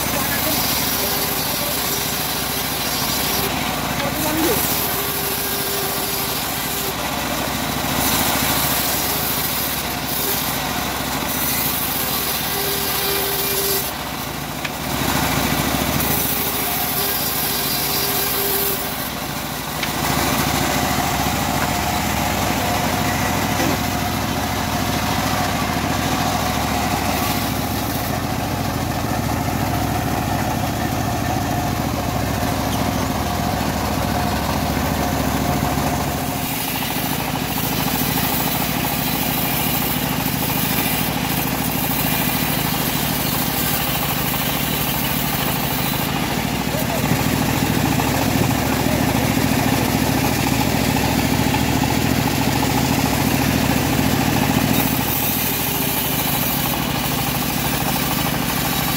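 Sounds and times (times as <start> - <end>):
bandsaw mill engine running: 0.0 - 58.9
saw blade cutting wood: 0.0 - 58.9.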